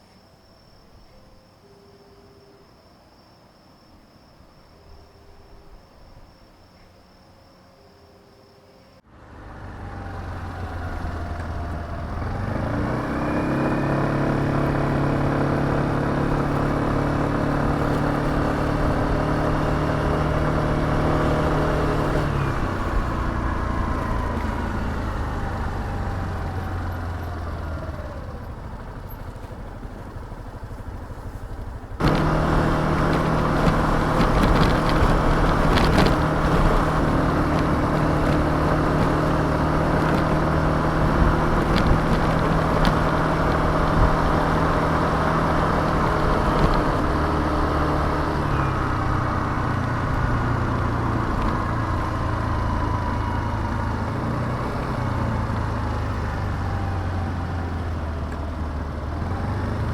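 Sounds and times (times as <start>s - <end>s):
road noise: 0.0s - 59.9s
scooter engine running: 9.0s - 59.9s
wind noise: 9.5s - 59.9s.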